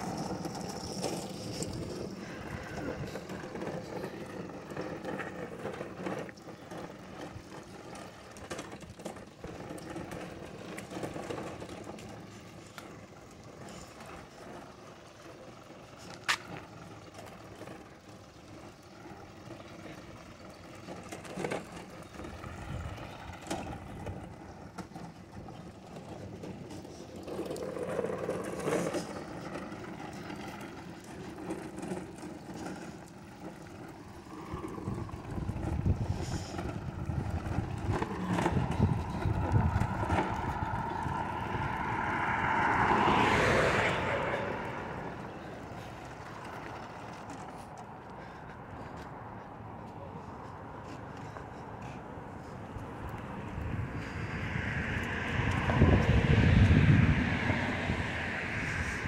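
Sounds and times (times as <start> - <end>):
lawn mower rolling and rattling: 0.0 - 59.0
street traffic: 0.0 - 59.0.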